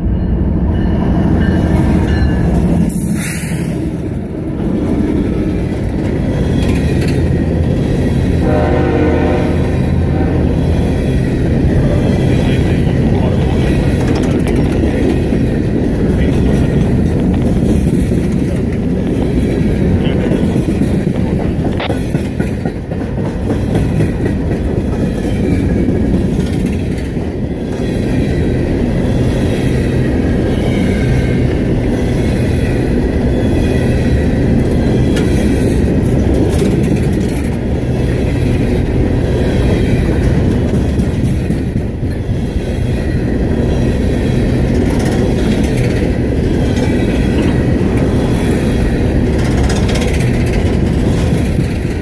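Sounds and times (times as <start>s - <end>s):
steel wheels rumbling on rails: 0.0s - 52.0s.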